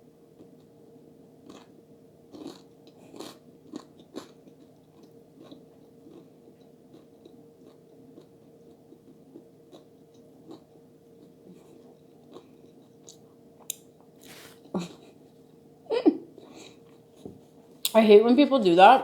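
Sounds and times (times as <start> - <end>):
faint steady hum: 0.0 - 19.0
crunchy chewing of food: 0.2 - 15.7, 16.4 - 17.9.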